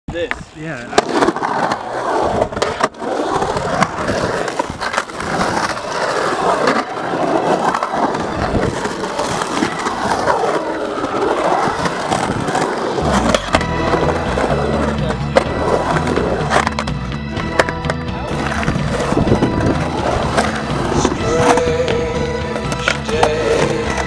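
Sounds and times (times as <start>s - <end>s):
skateboard wheels rolling on concrete: 0.1s - 24.0s
skateboard trucks clacking: 0.2s - 24.0s.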